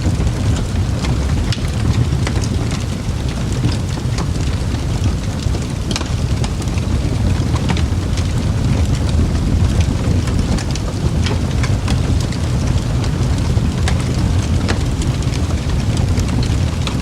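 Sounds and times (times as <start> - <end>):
sharp pops of burning wood: 0.0 - 17.0
wood fire crackling and roaring: 0.0 - 17.0.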